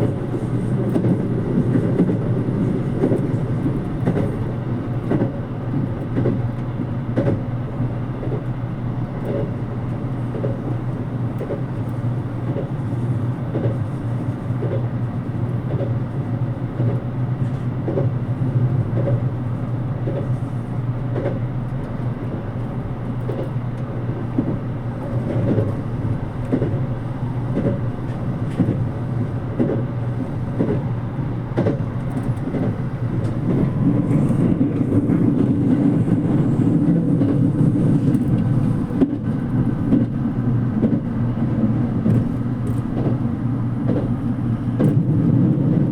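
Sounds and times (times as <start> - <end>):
train running rumble: 0.0 - 45.9.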